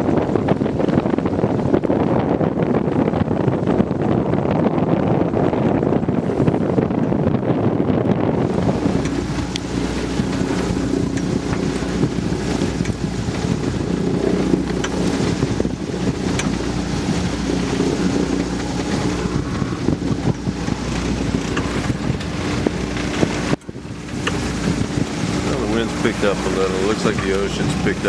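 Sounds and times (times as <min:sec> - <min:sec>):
boat engine droning: 0:00.0 - 0:28.0
sea rushing past hull: 0:00.0 - 0:28.0
wind buffeting microphone: 0:00.0 - 0:28.0.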